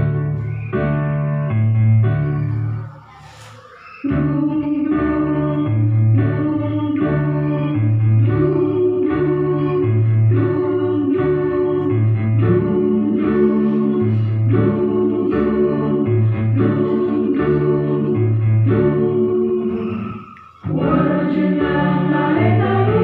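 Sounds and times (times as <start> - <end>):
mixed choir singing: 3.4 - 23.0.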